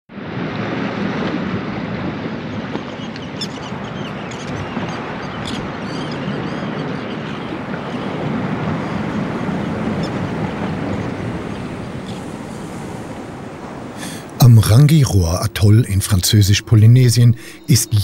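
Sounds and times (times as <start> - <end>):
surf washing on beach: 0.1 - 18.0.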